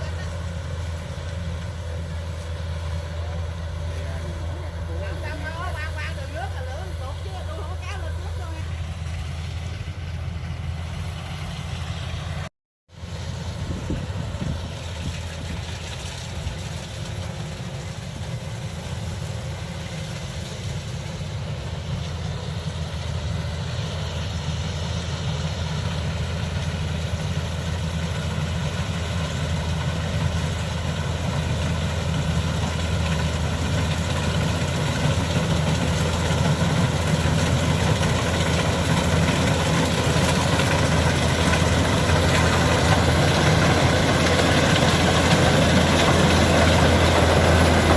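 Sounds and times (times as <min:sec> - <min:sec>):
combine harvester running: 0:00.0 - 0:47.9.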